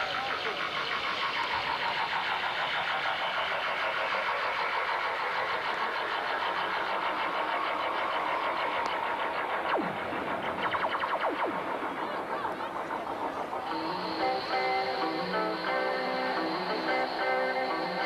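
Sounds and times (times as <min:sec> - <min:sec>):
murmur of large crowd: 0:00.0 - 0:18.0
pulsing engine-like drone: 0:00.0 - 0:18.0.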